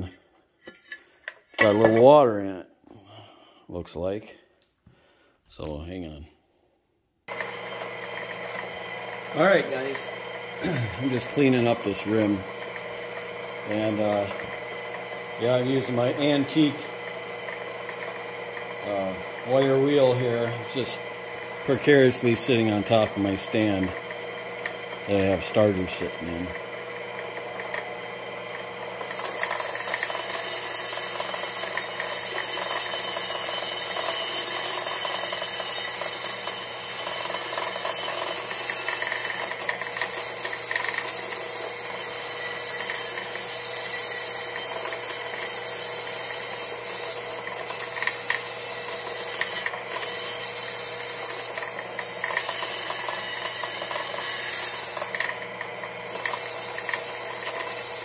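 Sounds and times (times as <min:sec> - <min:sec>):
motor hum: 0:07.3 - 0:58.0.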